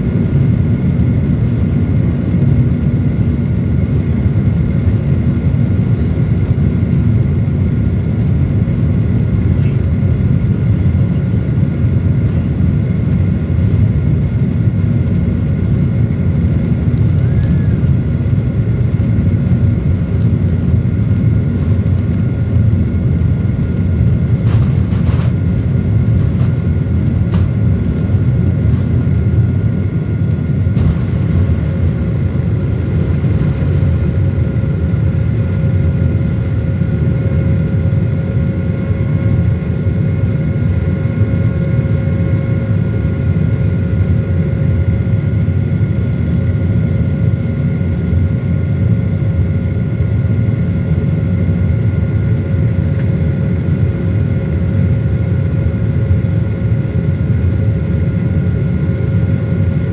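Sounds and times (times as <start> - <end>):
jet engine low rumble: 0.0 - 59.9
thin steady whine: 0.0 - 59.9.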